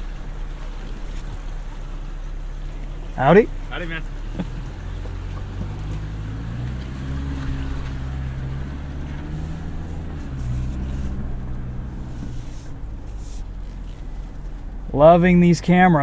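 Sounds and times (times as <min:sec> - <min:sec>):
car engine hum from cabin: 0:00.0 - 0:16.0
tyres rumbling on dirt: 0:00.0 - 0:16.0.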